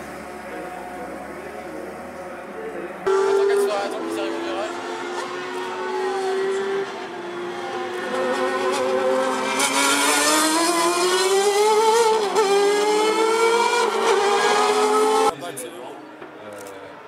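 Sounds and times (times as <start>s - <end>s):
sports car engine accelerating: 0.0s - 15.3s.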